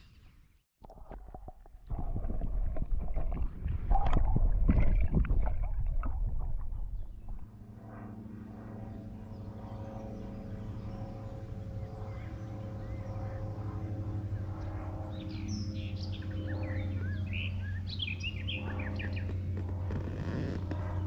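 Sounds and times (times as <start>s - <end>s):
steady low hum: 1.4s - 21.0s.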